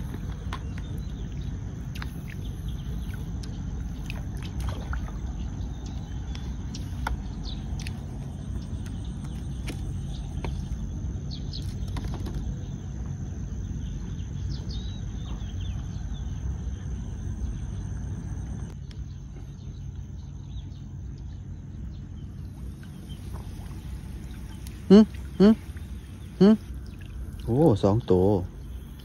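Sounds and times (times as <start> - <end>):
faint bird chirps: 0.0 - 29.0
steady low rumble: 0.0 - 29.0.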